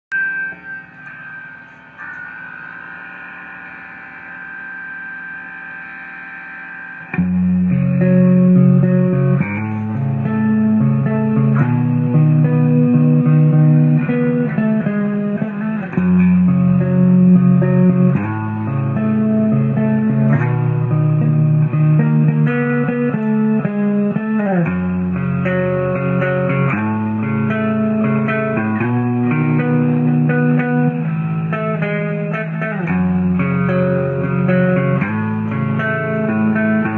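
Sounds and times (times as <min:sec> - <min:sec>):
bass line: 0:00.1 - 0:31.6
plucked guitar melody: 0:07.1 - 0:36.9.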